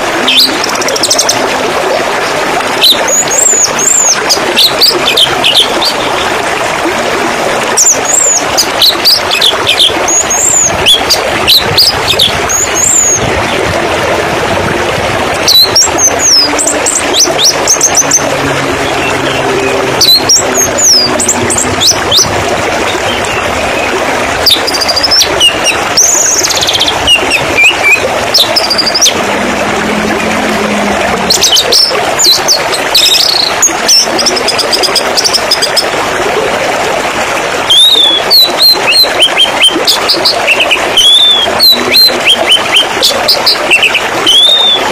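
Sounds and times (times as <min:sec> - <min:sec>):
flowing splashing water: 0:00.0 - 0:44.9.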